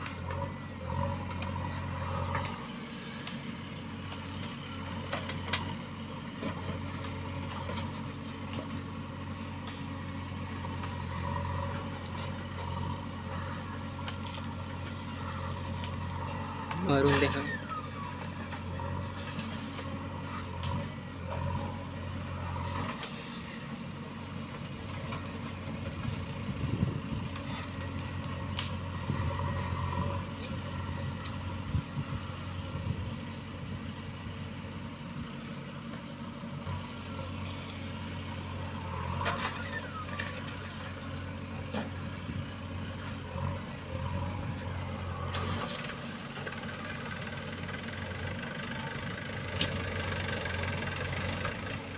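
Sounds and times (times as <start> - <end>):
diesel engine running at low revs: 0.0 - 51.9.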